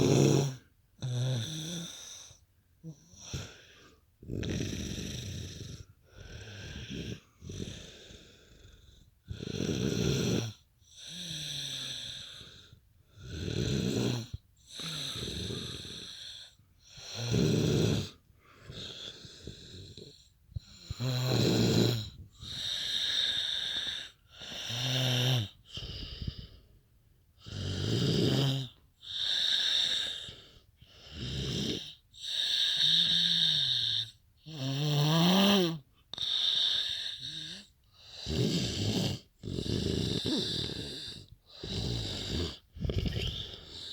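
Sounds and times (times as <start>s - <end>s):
heavy snoring: 0.0s - 26.6s, 27.4s - 43.9s.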